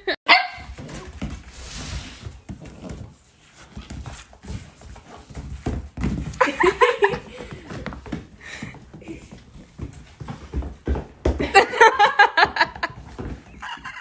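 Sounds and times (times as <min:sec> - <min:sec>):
thumping and shuffling: 0:00.6 - 0:14.0.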